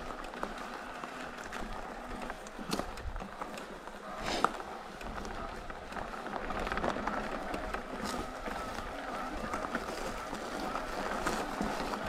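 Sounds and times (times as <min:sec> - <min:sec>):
bike clicks and rattles: 0:00.0 - 0:12.0
bike tyre and wind noise: 0:00.0 - 0:12.0.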